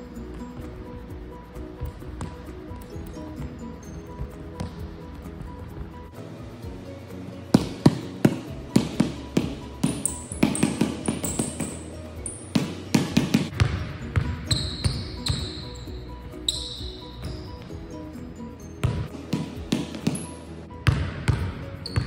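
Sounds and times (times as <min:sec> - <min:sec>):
sneaker squeaks: 0:00.0 - 0:06.2, 0:07.5 - 0:22.0
background music: 0:00.0 - 0:22.0
basketball bouncing on wooden floor: 0:00.3 - 0:01.0, 0:01.8 - 0:06.0, 0:07.5 - 0:15.8, 0:16.5 - 0:17.8, 0:18.8 - 0:22.0.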